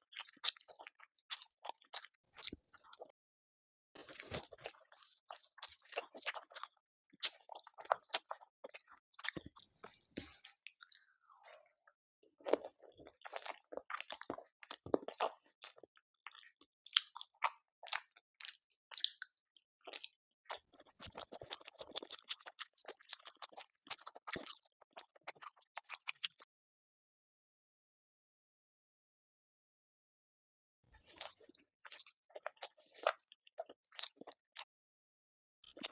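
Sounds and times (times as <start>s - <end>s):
person chewing food: 0.1s - 3.1s, 4.0s - 26.5s, 31.0s - 34.7s, 35.6s - 35.9s.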